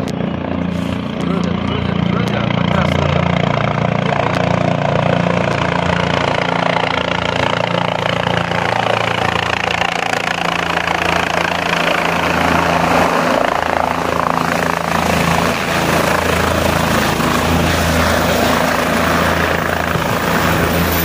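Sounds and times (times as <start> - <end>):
engine running loudly: 0.0 - 21.0.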